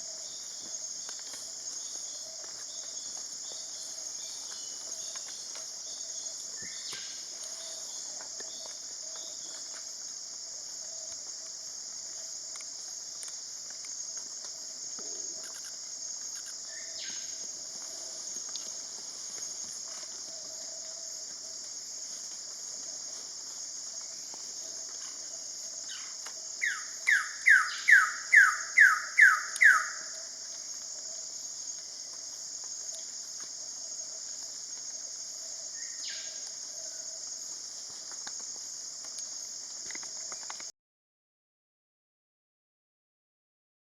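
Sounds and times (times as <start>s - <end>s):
high insect chorus: 0.0s - 40.7s.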